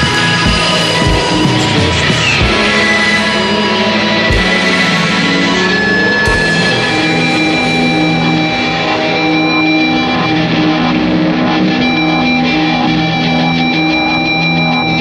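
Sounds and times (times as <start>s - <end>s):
shoegaze rock electric guitars: 0.0s - 15.0s.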